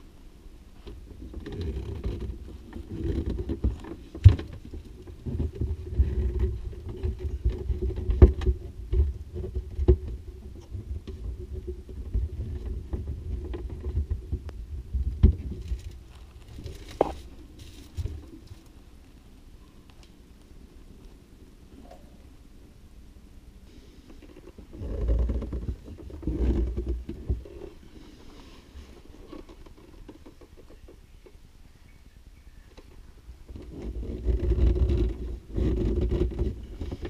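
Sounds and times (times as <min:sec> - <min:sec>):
rumbling handling noise: 0:00.0 - 0:37.0.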